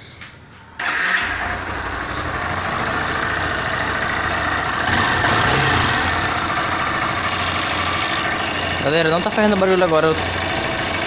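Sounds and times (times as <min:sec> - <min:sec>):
motorcycle engine idling: 0:01.2 - 0:11.0.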